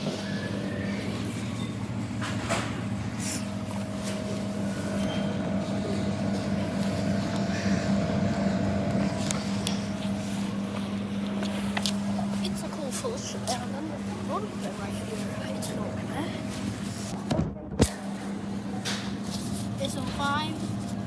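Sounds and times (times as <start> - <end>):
machine electrical hum: 0.0 - 21.0.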